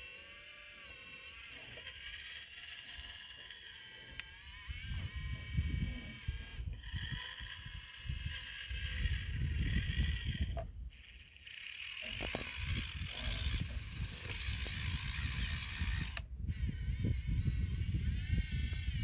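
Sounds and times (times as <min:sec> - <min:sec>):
mechanical whine of excavator: 0:00.0 - 0:19.0.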